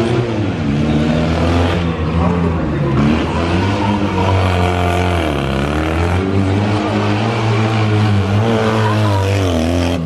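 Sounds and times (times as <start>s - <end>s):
car engine revving hard: 0.0s - 10.0s.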